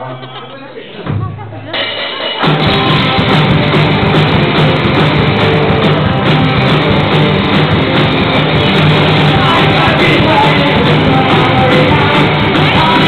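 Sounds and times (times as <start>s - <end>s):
live rock band playing loudly: 1.8s - 13.0s.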